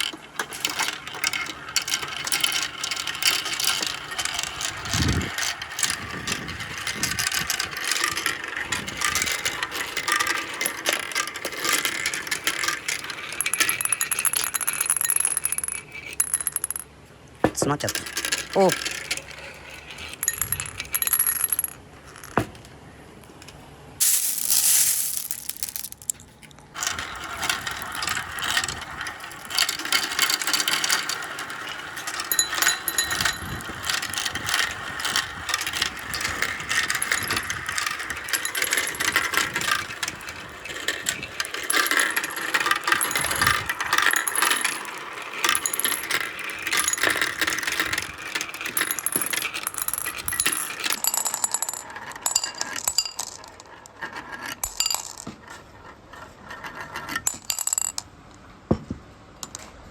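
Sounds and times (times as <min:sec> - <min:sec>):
marbles rattling along a track: 0:00.0 - 0:16.9, 0:17.5 - 0:22.6, 0:24.0 - 0:58.0.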